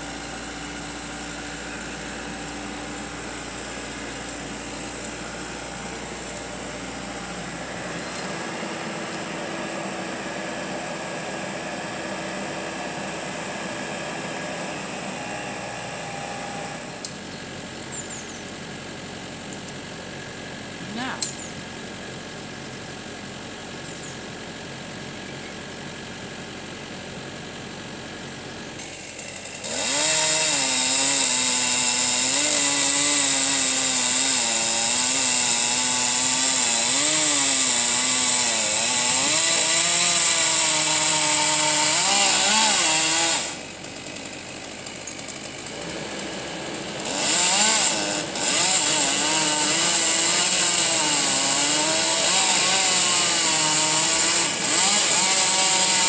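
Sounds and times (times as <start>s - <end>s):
chainsaw cutting wood: 0.0s - 22.2s, 26.1s - 56.0s
chainsaw engine idling: 0.0s - 56.0s.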